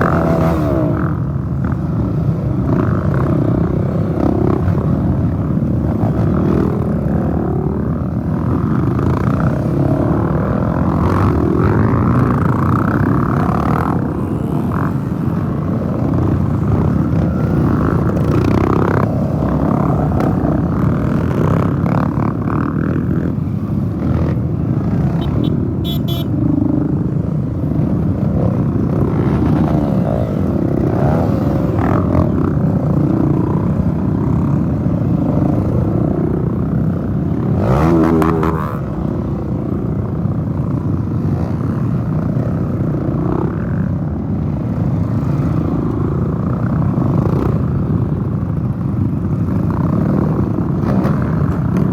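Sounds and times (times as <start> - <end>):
motorcycles revving past: 0.0 - 51.9.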